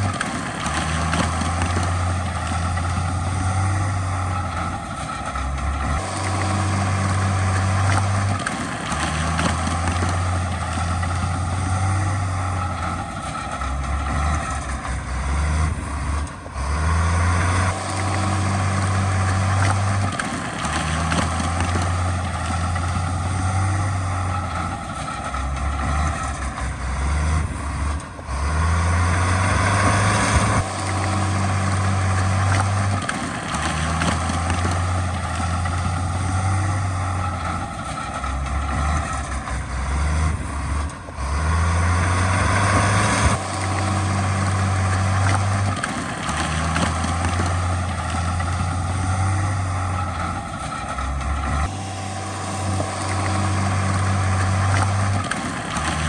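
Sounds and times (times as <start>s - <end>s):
heavy diesel machinery rumble: 0.0s - 56.0s.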